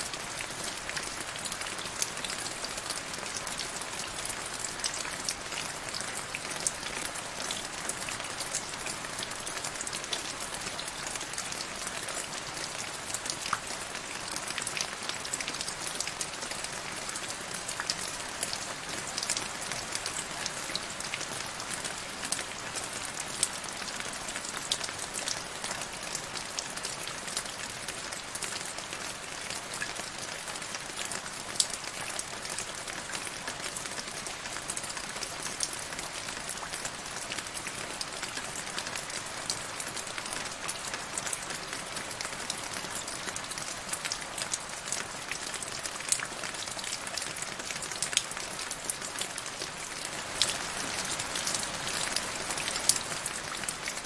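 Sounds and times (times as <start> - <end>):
rain hissing on puddle: 0.0 - 54.0.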